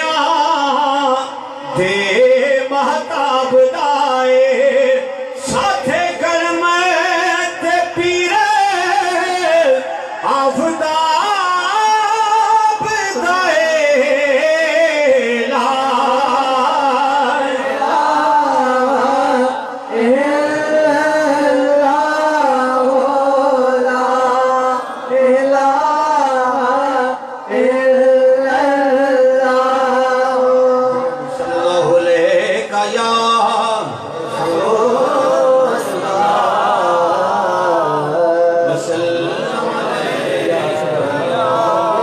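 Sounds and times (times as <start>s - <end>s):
man singing unaccompanied: 0.0s - 39.8s.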